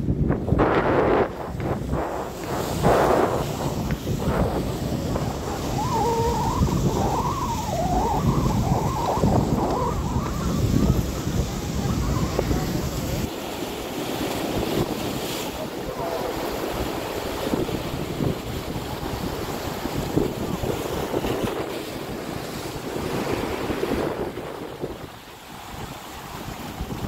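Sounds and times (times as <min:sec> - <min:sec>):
waves splashing: 0:00.0 - 0:27.0
wind buffeting microphone: 0:00.0 - 0:27.0.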